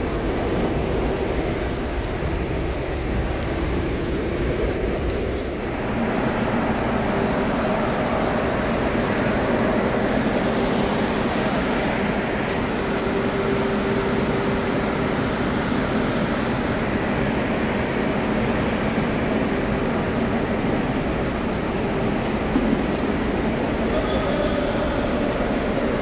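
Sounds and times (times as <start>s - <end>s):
ship machinery drone: 0.0s - 26.0s.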